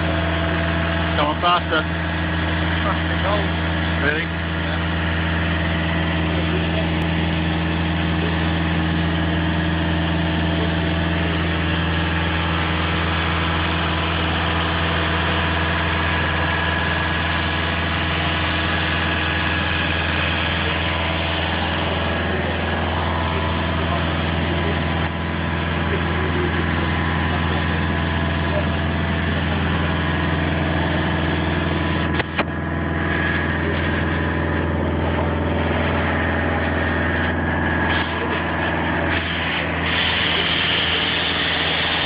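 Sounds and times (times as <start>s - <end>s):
engine humming steadily: 0.0s - 42.0s.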